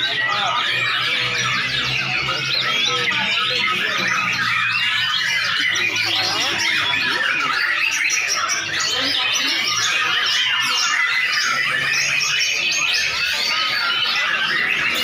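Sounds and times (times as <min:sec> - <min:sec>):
birds singing in chorus: 0:00.0 - 0:15.0.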